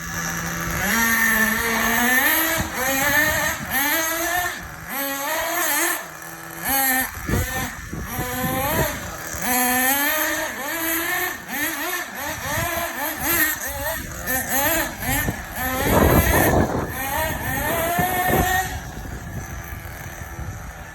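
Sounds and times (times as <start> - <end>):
radio-controlled car engine revving: 0.0 - 20.9.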